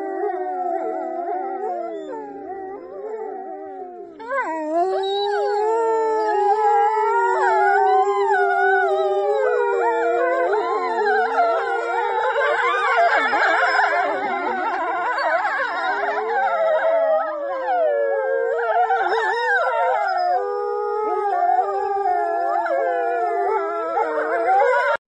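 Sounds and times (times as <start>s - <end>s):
wolves howling: 0.0s - 25.0s
woman howling: 0.0s - 25.0s.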